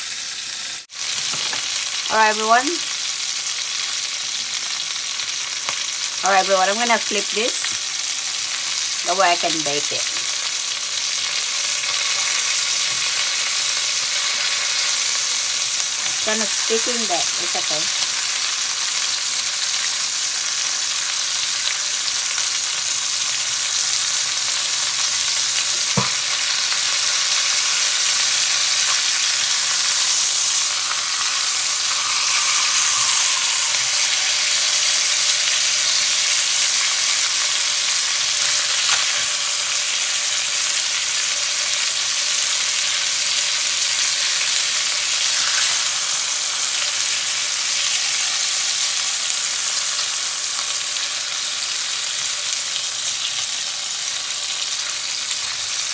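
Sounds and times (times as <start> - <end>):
chicken sizzling in a pan: 0.0 - 55.9.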